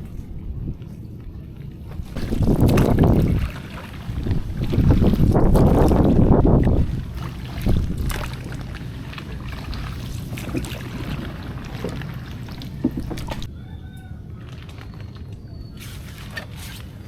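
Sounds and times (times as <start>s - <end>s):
wind buffeting microphone: 0.0s - 14.4s
water washing: 1.9s - 13.5s, 14.4s - 17.0s.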